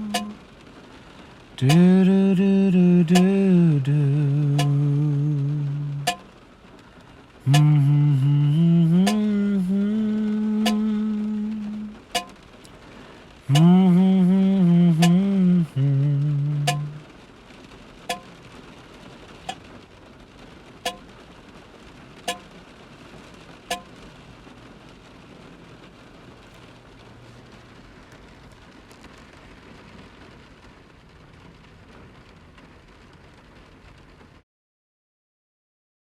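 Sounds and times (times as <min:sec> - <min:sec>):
steady rain falling: 0:00.0 - 0:34.4.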